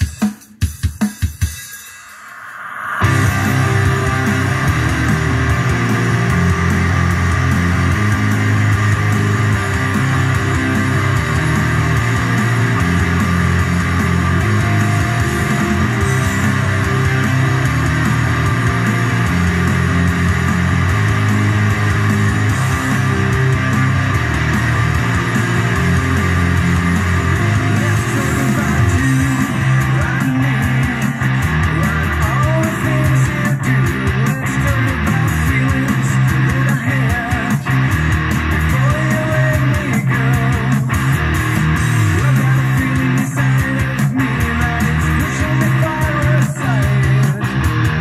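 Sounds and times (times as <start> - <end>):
heavy rock music: 0.0 - 48.0.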